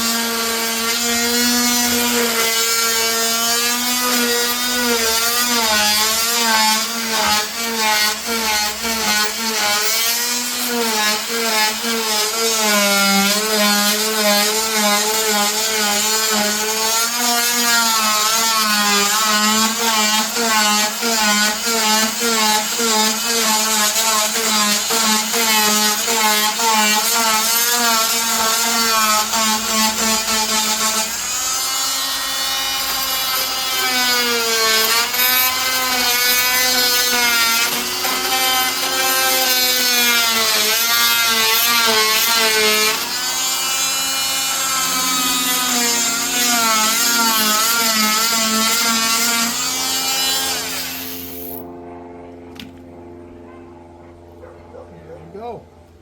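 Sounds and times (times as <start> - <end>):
electric saw cutting wood: 0.0 - 53.3.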